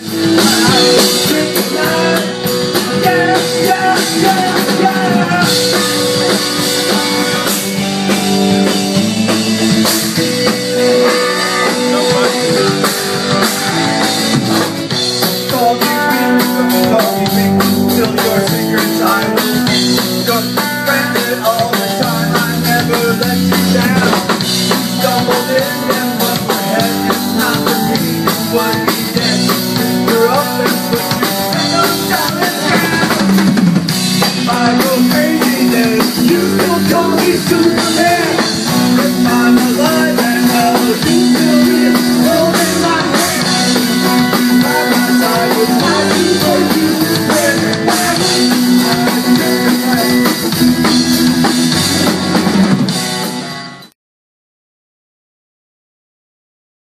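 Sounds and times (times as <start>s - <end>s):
man singing rock song: 0.0s - 52.7s
drum kit: 0.0s - 53.9s
electric guitar: 0.0s - 53.9s.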